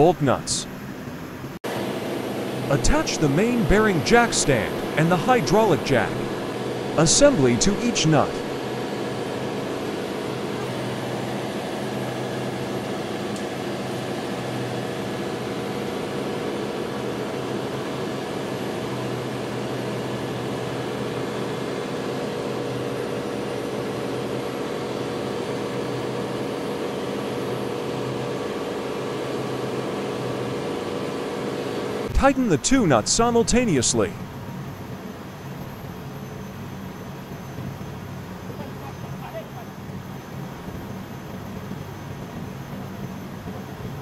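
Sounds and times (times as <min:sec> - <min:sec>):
ventilation hum: 0:00.0 - 0:24.8, 0:31.4 - 0:44.0
diesel generators droning: 0:00.0 - 0:44.0.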